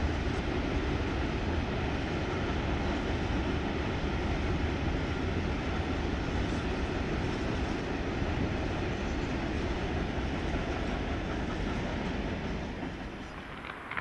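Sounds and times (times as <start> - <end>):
freight train rumbling over bridge: 0.0 - 14.0.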